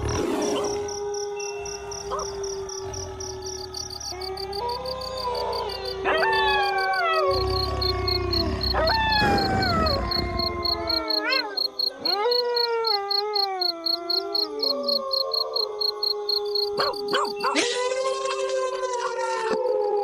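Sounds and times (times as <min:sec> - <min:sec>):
insect chirping in pulses: 0:00.0 - 0:17.6
wolves howling in chorus: 0:00.5 - 0:20.0.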